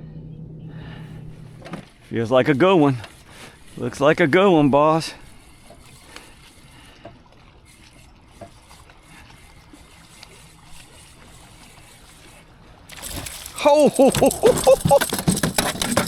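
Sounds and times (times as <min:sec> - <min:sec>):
water lapping against hull: 0:00.8 - 0:16.0.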